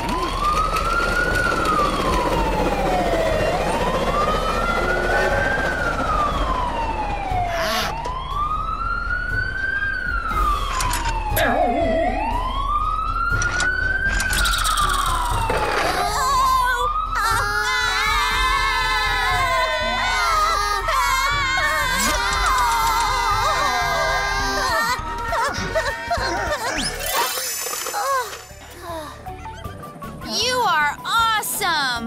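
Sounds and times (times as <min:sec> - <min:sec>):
siren wailing: 0:00.0 - 0:28.6.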